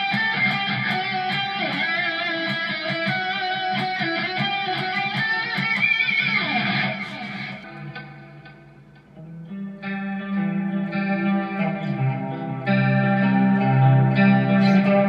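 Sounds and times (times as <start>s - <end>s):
electric guitar notes: 0.0s - 15.0s.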